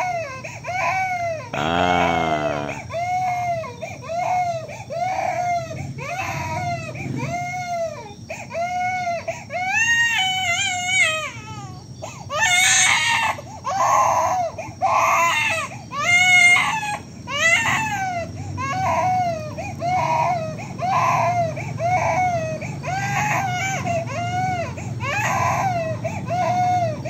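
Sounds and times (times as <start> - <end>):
baby crying: 0.0 - 27.0.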